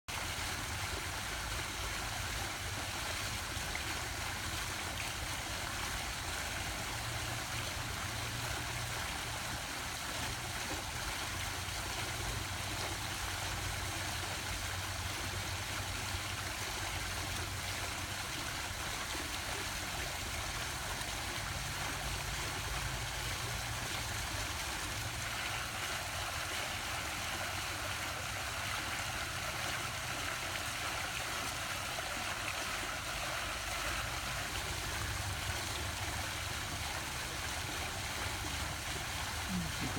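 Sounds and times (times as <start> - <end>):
water fountain splashing: 0.1 - 39.9.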